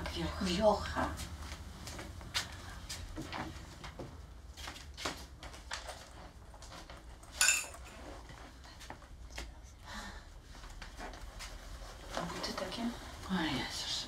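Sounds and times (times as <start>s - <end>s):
clothes rustling: 0.9s - 14.0s.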